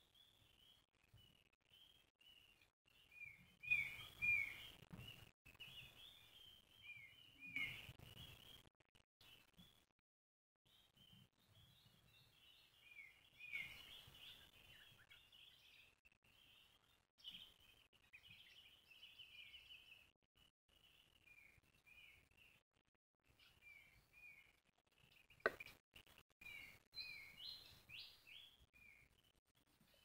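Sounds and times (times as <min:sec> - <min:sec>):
faint birdsong chirps and whistles: 0:00.0 - 0:09.9, 0:10.6 - 0:22.6, 0:23.2 - 0:30.0.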